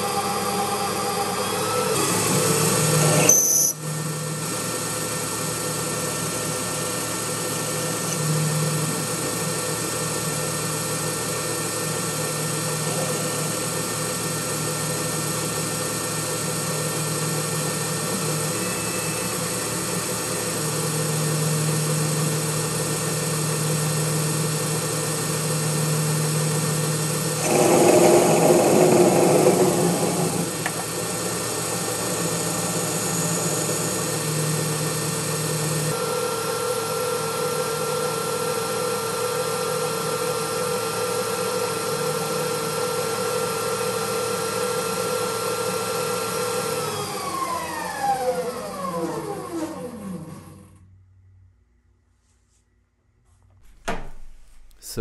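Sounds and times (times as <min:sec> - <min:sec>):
lathe tool cutting metal: 0:00.0 - 0:48.0
lathe motor hum: 0:00.0 - 0:50.8.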